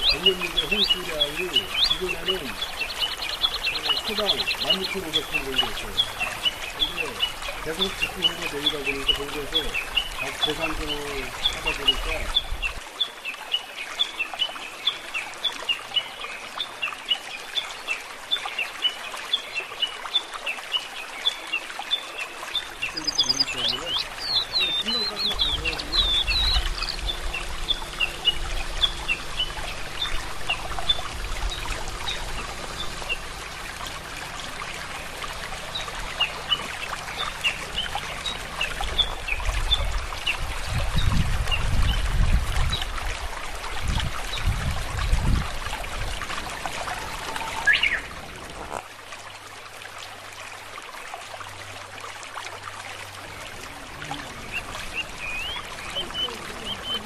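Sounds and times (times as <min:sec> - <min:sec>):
small birds chirping: 0:00.0 - 0:42.9, 0:44.2 - 0:48.8, 0:53.2 - 0:57.0.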